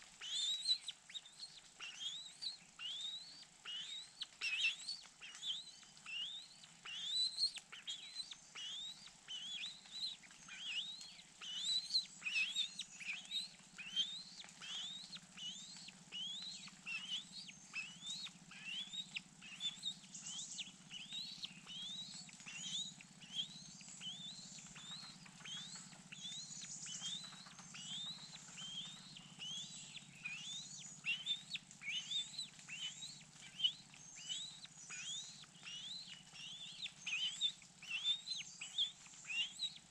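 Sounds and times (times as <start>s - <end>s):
bird chirping: 0.0s - 39.9s
faint low hum: 0.0s - 39.9s.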